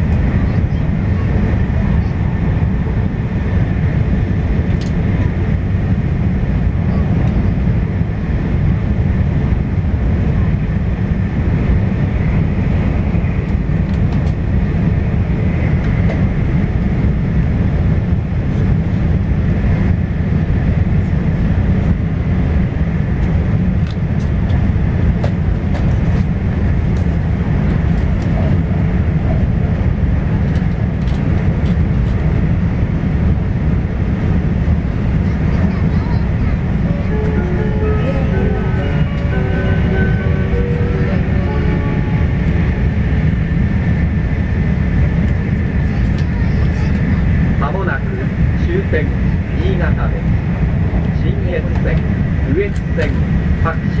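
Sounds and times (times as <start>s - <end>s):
wheels rumbling on rail: 0.0s - 54.0s
rushing air: 1.3s - 45.8s.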